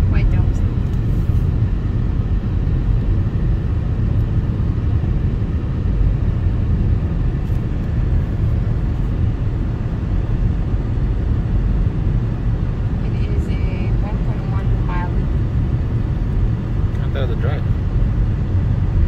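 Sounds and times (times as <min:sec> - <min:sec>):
car interior road rumble: 0:00.0 - 0:19.0.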